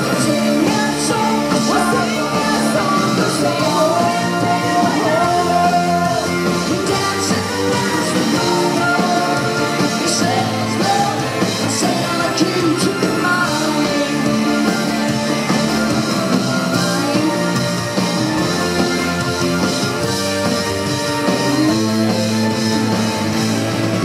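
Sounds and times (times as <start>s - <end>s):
woman singing lead: 0.0s - 22.8s
live rock band playing: 0.0s - 24.0s.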